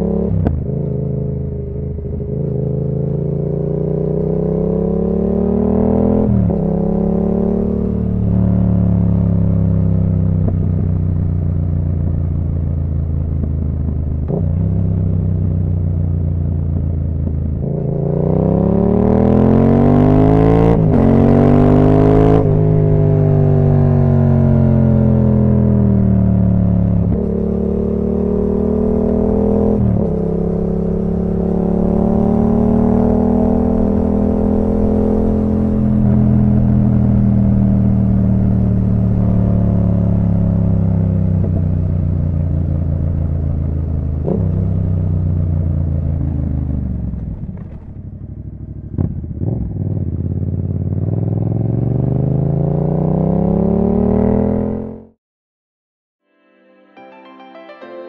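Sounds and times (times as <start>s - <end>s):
motorcycle engine shifting gears: 0.0s - 55.1s.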